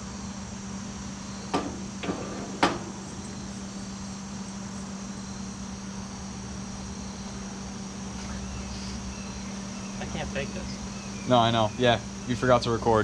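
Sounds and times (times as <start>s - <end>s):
low hum with high whine: 0.0s - 13.0s.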